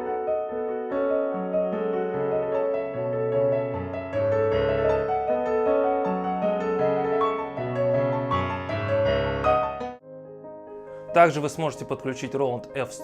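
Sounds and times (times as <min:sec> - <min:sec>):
slow piano piece: 0:00.0 - 0:13.0.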